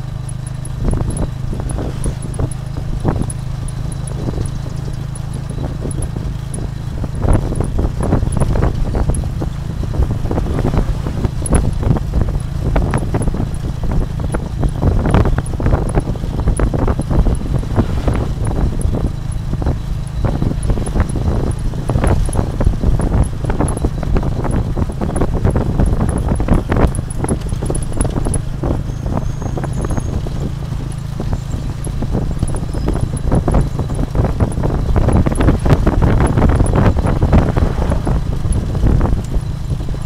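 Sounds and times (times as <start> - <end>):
carriage rattling and knocking: 0.0 - 40.0
engine drone: 0.0 - 40.0.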